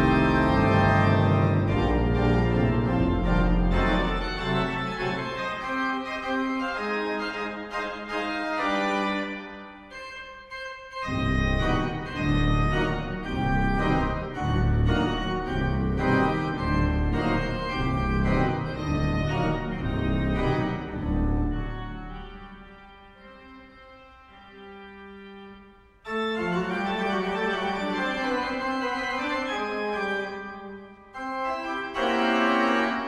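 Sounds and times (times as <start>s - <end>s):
organ pedal bass notes: 0.0s - 25.5s, 26.1s - 33.0s
pipe organ chords: 0.0s - 33.0s.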